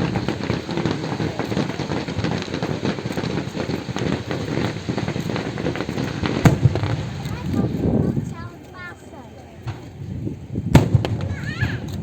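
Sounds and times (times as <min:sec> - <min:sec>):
loud firework bang: 0:00.0 - 0:08.5, 0:10.6 - 0:12.0
fireworks crackling: 0:00.0 - 0:12.0.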